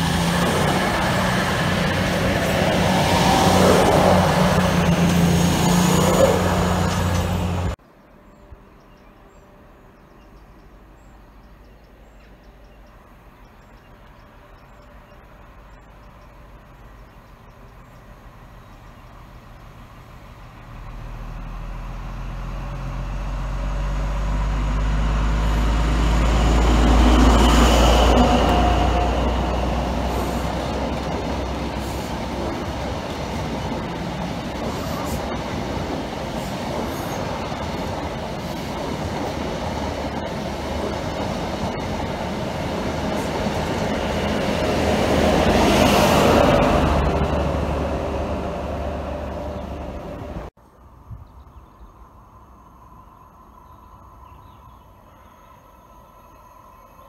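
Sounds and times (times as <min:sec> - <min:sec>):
coaches rumbling over rails: 0:00.0 - 0:07.8, 0:12.0 - 0:50.5
diesel train engine passing: 0:00.0 - 0:50.6.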